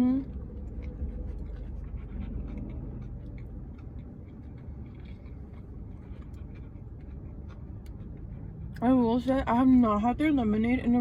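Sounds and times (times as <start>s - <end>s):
person chewing: 0.0s - 9.3s
low hum: 0.0s - 11.0s.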